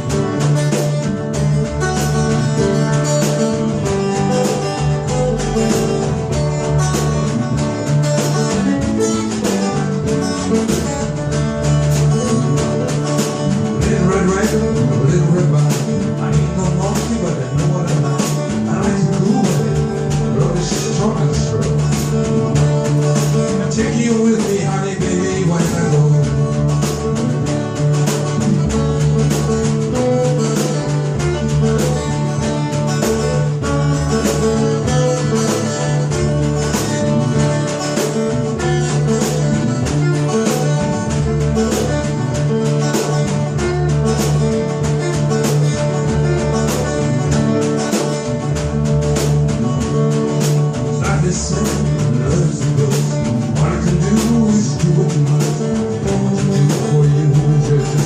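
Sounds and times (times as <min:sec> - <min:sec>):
blues-rock band playing: 0:00.0 - 0:58.0
electric guitar: 0:00.0 - 0:58.0.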